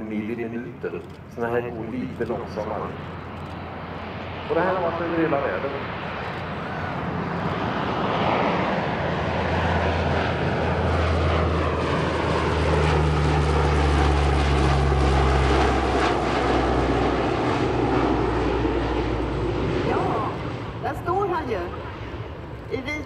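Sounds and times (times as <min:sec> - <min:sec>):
high engine whine: 0:00.0 - 0:23.0
propeller aircraft drone: 0:00.0 - 0:23.0.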